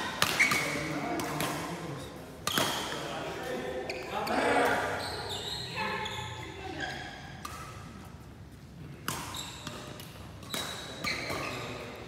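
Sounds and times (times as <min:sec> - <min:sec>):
shoes squeaking on court floor: 0:00.0 - 0:01.6, 0:02.5 - 0:08.3, 0:09.1 - 0:12.0.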